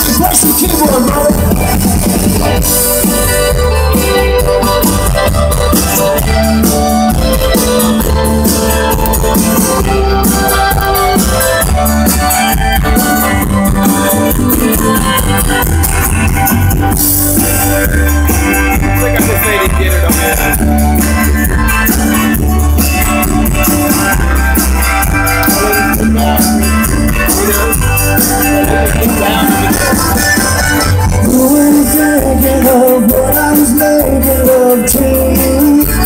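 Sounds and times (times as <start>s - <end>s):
heavy bass line: 0.0s - 36.0s
live band playing instrumental: 0.0s - 36.0s
steady drum beat: 0.0s - 36.0s.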